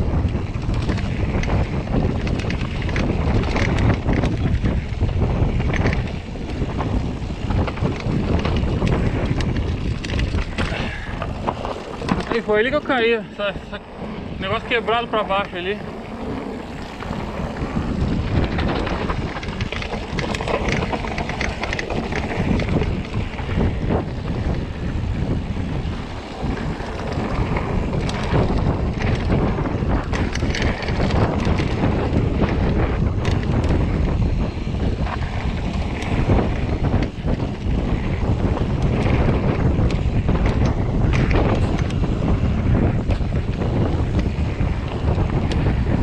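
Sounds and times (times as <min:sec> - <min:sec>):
bike clicks and rattles: 0:00.0 - 0:46.0
tyres rumbling on dirt: 0:00.0 - 0:46.0
wind buffeting microphone: 0:00.0 - 0:46.0.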